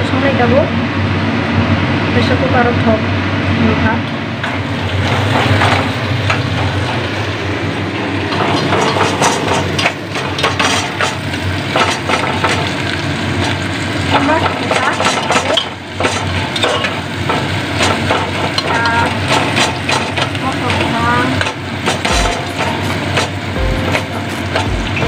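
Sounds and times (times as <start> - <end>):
onions sizzling in oil: 3.4 - 25.0.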